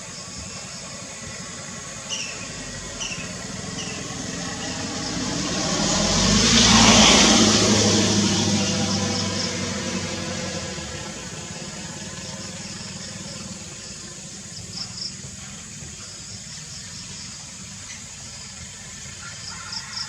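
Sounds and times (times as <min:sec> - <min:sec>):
insects: 0:00.0 - 0:20.0
vehicle engine hum: 0:00.0 - 0:20.0.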